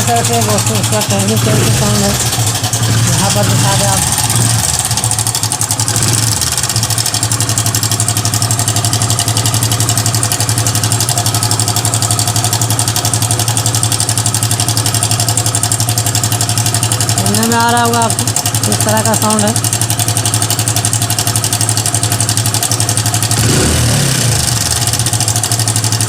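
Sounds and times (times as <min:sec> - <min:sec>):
engine idling with chain rattle: 0:00.0 - 0:26.0.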